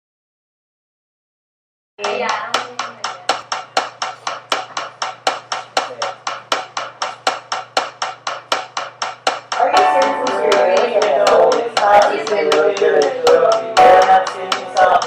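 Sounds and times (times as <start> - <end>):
rhythmic tapping on wooden stick: 2.0 - 15.0.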